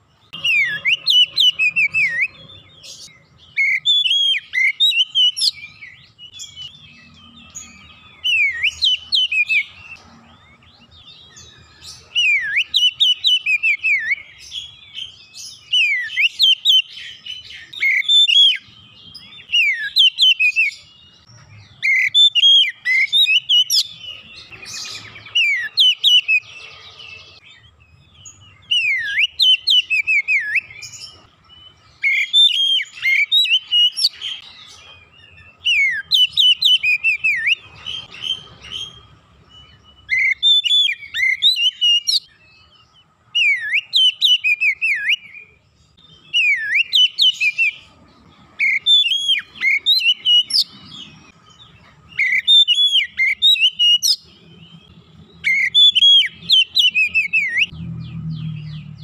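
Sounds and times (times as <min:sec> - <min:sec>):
bird singing whistled phrases: 0:00.3 - 0:10.0, 0:11.4 - 0:26.6, 0:28.2 - 0:34.5, 0:35.3 - 0:42.7, 0:43.3 - 0:47.9, 0:48.6 - 0:51.1, 0:52.2 - 0:54.8, 0:55.4 - 0:57.8.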